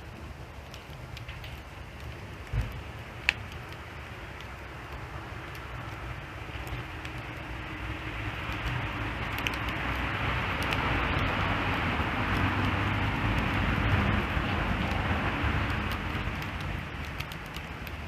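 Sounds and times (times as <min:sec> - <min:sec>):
campfire crackling: 0:00.0 - 0:18.0
low rumbling noise: 0:00.0 - 0:18.0.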